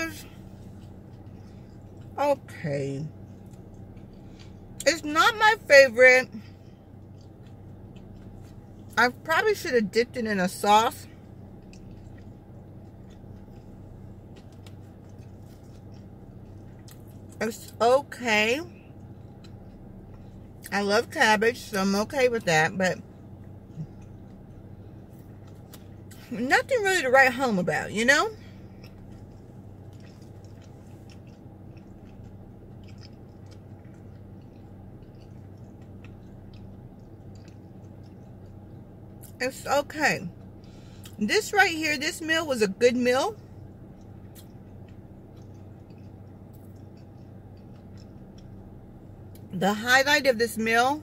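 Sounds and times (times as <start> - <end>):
car cabin hum: 0.0 - 51.0
chewing food: 0.1 - 5.7, 6.3 - 21.2, 22.0 - 26.7, 28.3 - 39.4, 40.3 - 41.2, 43.3 - 49.6.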